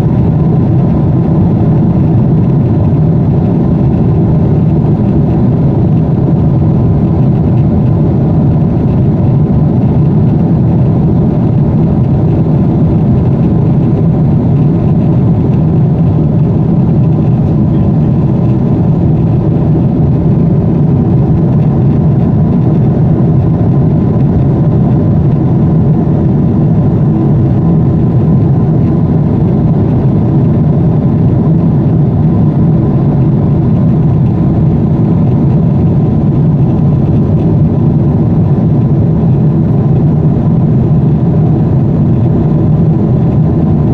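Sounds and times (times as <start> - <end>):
airliner cabin engine rumble: 0.0 - 43.9
faint steady hum: 0.0 - 43.9.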